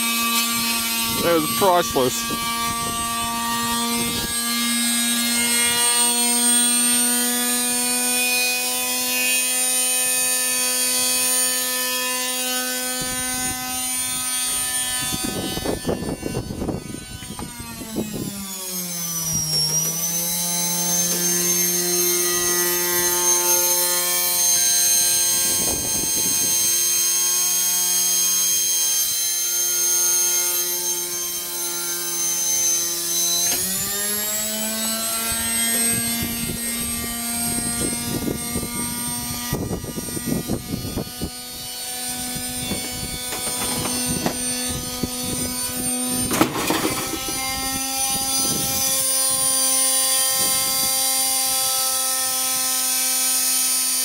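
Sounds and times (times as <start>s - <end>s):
electric motor whining at high speed: 0.0s - 54.0s.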